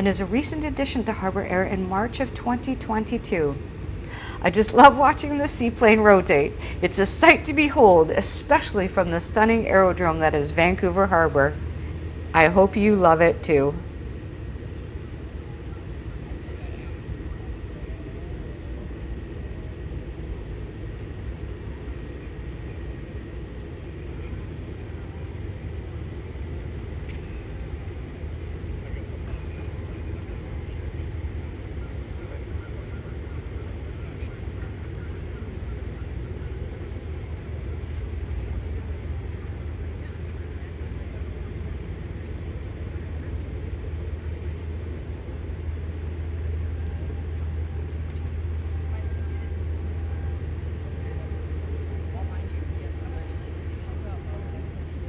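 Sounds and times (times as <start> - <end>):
faint steady engine whine: 0.0 - 55.0
turboprop engine droning: 0.0 - 55.0.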